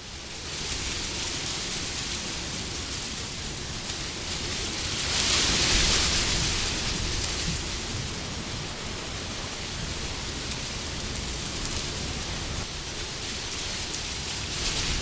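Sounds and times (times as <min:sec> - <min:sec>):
steady rushing wind: 0:00.0 - 0:15.0.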